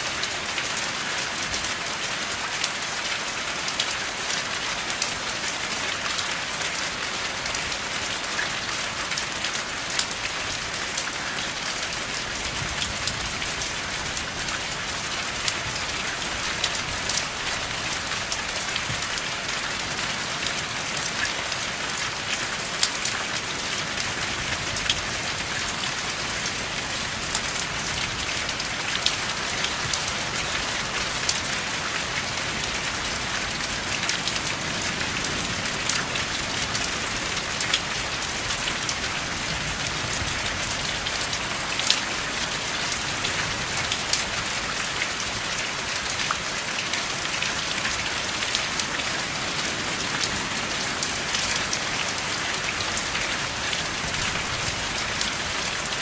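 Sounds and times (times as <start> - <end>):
sharp drips and patters: 0.0 - 56.0
steady rain hiss: 0.0 - 56.0.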